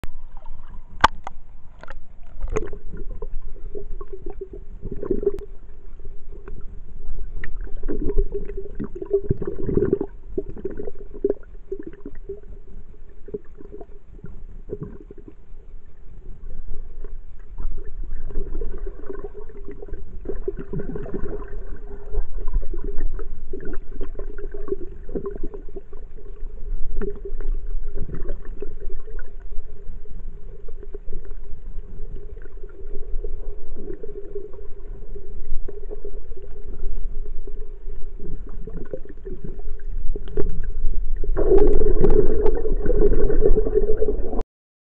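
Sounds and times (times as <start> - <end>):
low hum: 0.0 - 44.4
muffled underwater sloshing: 0.0 - 44.4.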